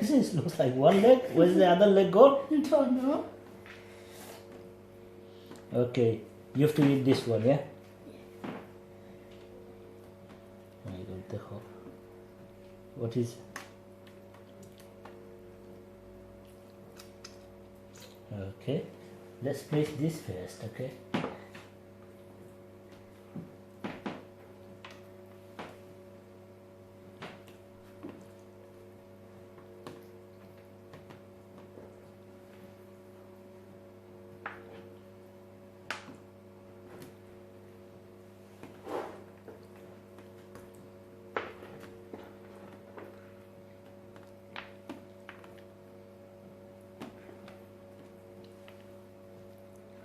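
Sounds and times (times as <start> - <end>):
appliance hum: 0.0 - 50.0.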